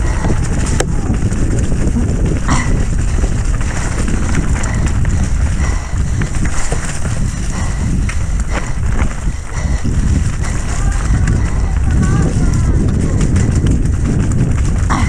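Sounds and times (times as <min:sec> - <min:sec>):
bike knocking and rattling: 0:00.0 - 0:15.0
tyres rumbling over ground: 0:00.0 - 0:15.0
wind on microphone: 0:00.0 - 0:15.0.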